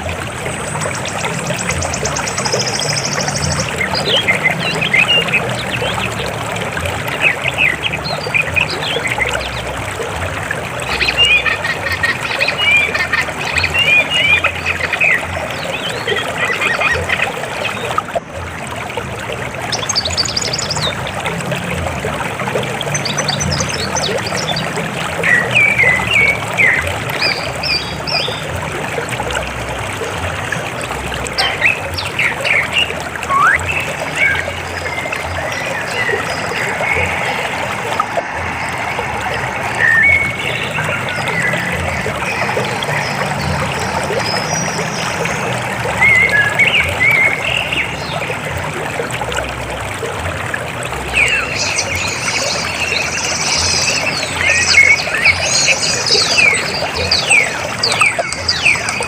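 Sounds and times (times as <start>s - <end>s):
birds chirping: 0.0s - 18.2s, 22.4s - 28.6s, 29.3s - 48.5s, 50.9s - 59.0s
river water flowing: 0.0s - 59.0s.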